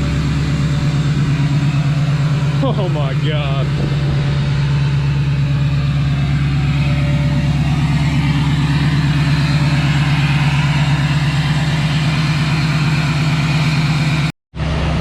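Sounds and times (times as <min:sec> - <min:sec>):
loud diesel engine idling: 0:00.0 - 0:15.0.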